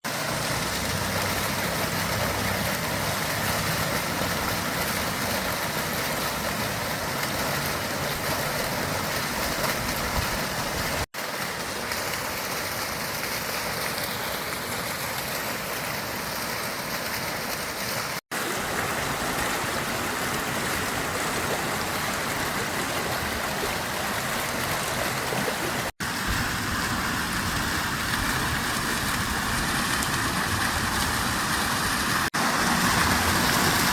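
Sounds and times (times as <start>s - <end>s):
fountain water splashing: 0.0s - 33.9s.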